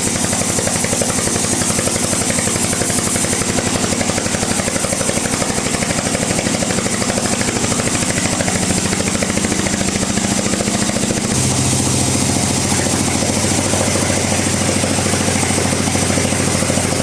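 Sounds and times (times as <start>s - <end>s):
bandsaw cutting a log: 0.0s - 17.0s.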